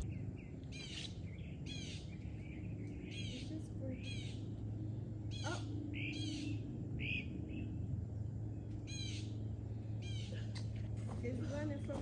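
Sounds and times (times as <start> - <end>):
birds rasping calls: 0.0 - 7.8, 8.8 - 10.7
steady low hum: 0.0 - 12.0.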